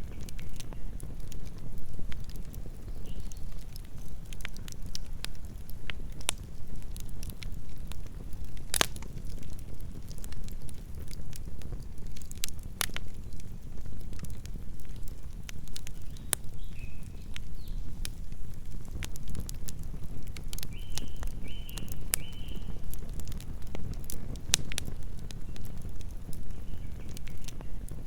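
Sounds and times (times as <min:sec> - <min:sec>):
campfire crackling and popping: 0:00.0 - 0:28.0
low rumble of flames: 0:00.0 - 0:28.0.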